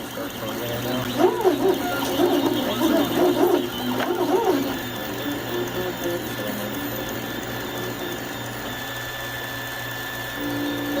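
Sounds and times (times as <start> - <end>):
steady machine hum: 0.0 - 11.0
stepper motors whirring: 0.0 - 11.0.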